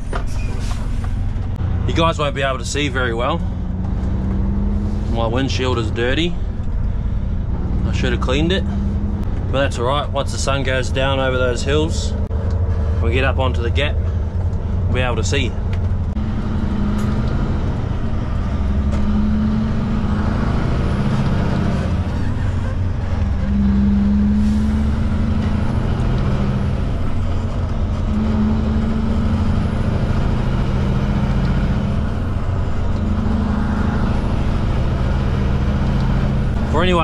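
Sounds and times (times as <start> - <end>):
road and tyre noise: 0.0 - 37.0
truck diesel engine running: 0.0 - 37.0.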